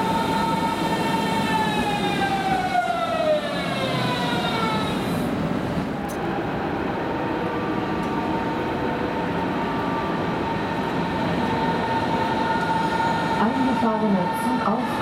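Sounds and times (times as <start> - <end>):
electric train approaching: 0.0 - 15.0.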